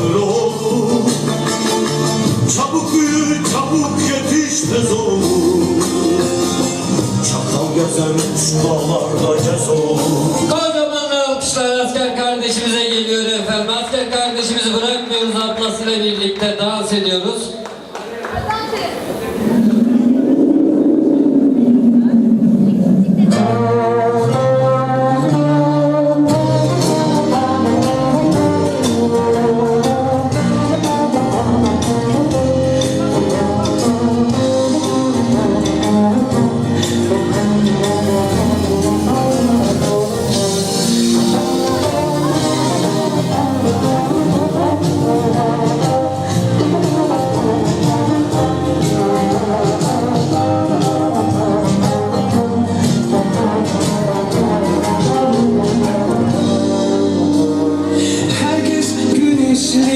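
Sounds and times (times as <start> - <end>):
instrumental dance music: 0.0 - 10.6, 17.4 - 59.9.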